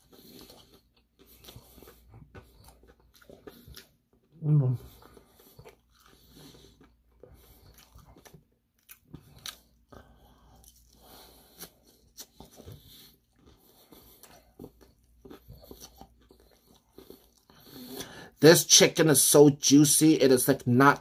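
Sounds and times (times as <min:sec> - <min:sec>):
chewing crispy fried chicken: 0:00.0 - 0:21.0.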